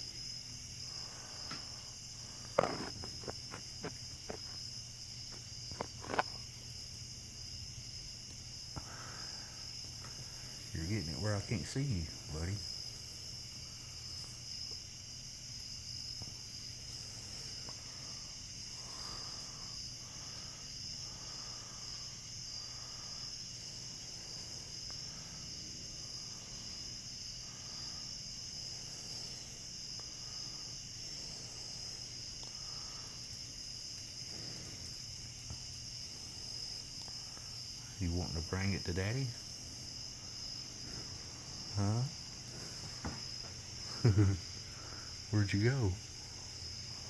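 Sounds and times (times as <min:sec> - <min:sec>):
night insects droning: 0:00.0 - 0:47.0.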